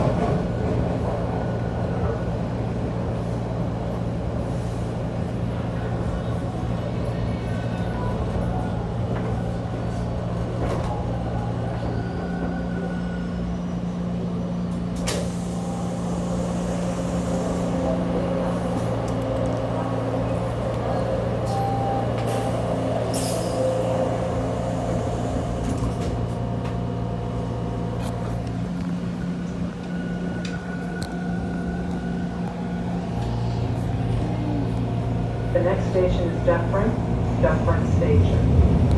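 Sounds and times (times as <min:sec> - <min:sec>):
train equipment humming: 0:00.0 - 0:38.9.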